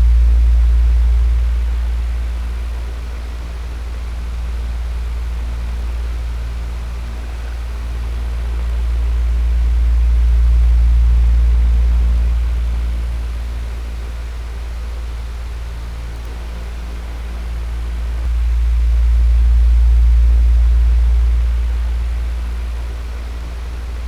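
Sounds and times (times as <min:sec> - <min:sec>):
deep low hum: 0:00.0 - 0:24.0.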